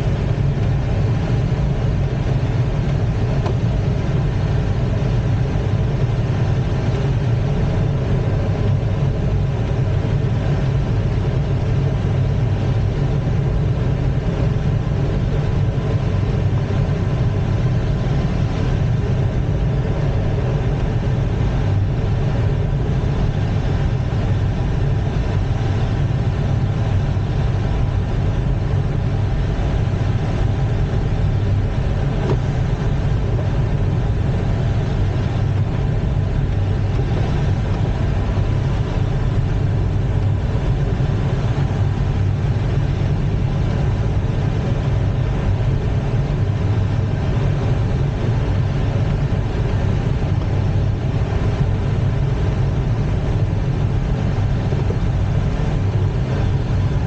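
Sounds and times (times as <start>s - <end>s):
airflow rushing over glider: 0.0s - 57.0s.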